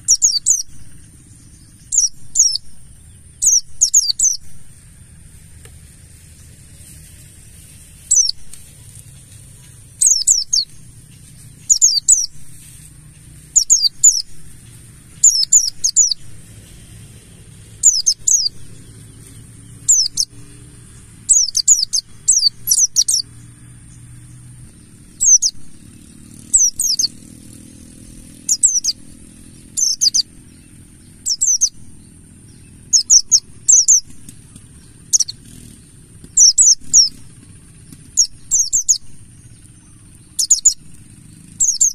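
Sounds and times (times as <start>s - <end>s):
bird calling: 0.0s - 16.5s, 17.8s - 24.0s, 24.7s - 41.9s.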